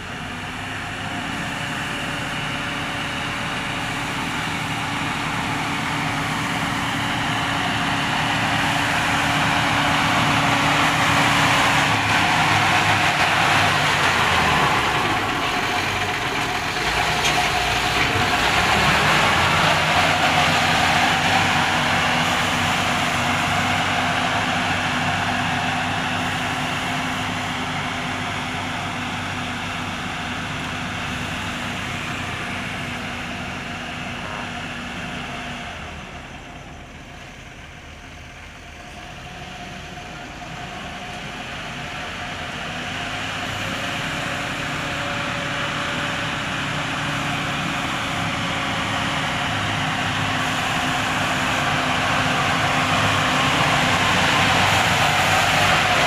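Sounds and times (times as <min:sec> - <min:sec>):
road roller diesel engine: 0:00.0 - 0:56.0.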